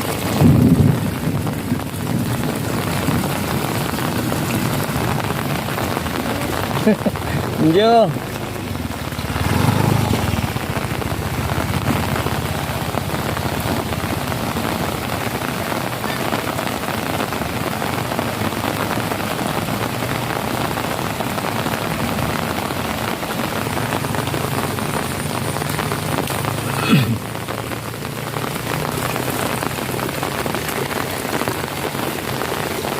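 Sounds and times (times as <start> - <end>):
heavy rain pouring: 0.0 - 32.9.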